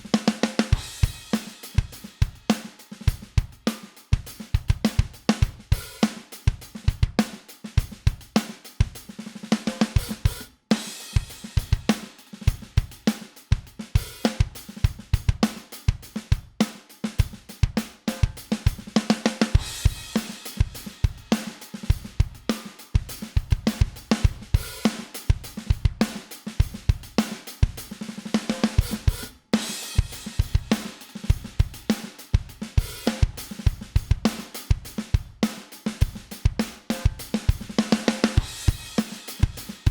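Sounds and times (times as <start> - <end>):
drum kit playing a groove: 0.0 - 39.9.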